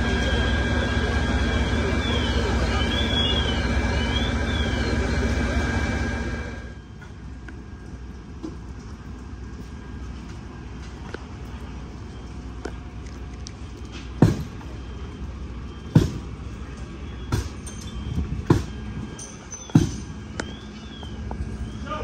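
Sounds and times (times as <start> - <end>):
fire engines running: 0.0 - 22.0.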